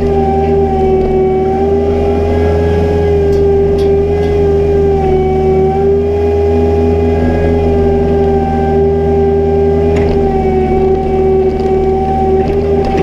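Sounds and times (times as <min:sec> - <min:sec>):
diesel engine drone: 0:00.0 - 0:13.0
high whine: 0:00.0 - 0:13.0.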